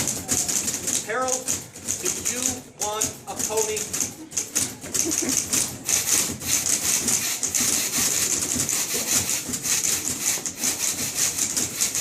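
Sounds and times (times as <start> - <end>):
typewriters played as percussion: 0.0 - 12.0.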